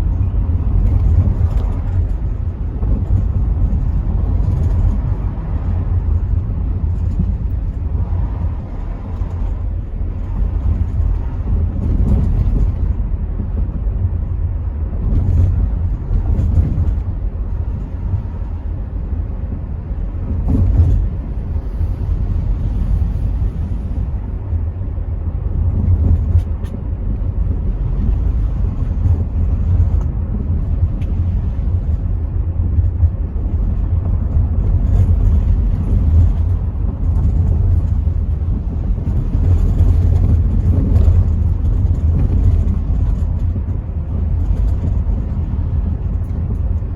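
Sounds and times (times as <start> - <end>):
car engine: 0.0 - 46.9
road and wind noise in car: 0.0 - 46.9.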